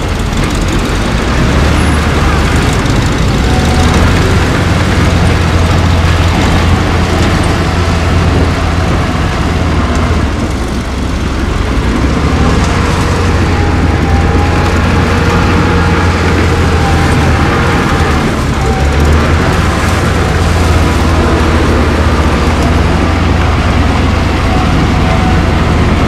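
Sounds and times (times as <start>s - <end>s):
heavy diesel machinery droning: 0.0s - 26.0s.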